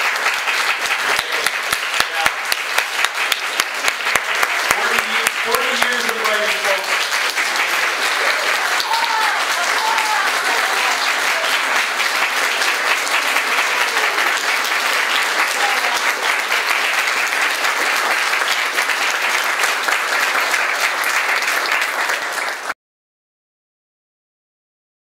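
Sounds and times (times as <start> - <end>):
audience applauding: 0.0 - 22.8.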